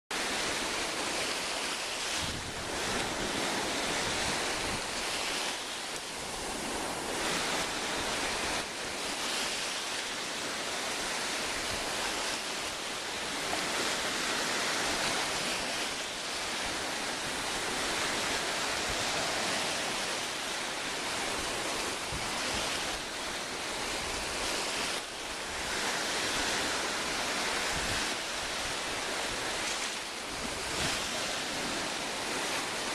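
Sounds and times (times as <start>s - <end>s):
sea waves washing onto shore: 0.1s - 32.9s
wind on microphone: 0.2s - 32.9s.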